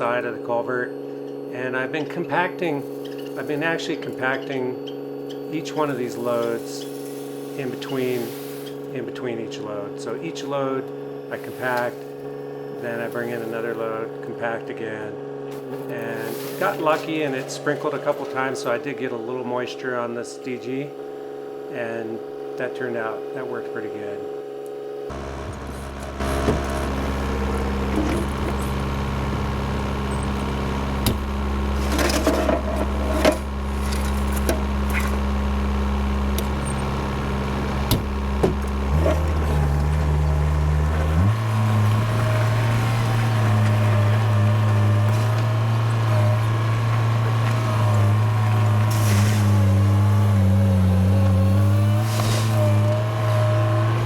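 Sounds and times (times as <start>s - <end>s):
heavy machine engine running: 1.0s - 22.6s, 24.3s - 54.0s.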